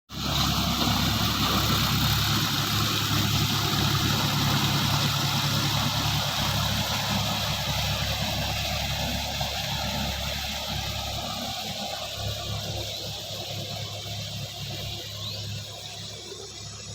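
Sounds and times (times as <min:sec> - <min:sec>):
diesel engine idling: 0:00.1 - 0:16.9.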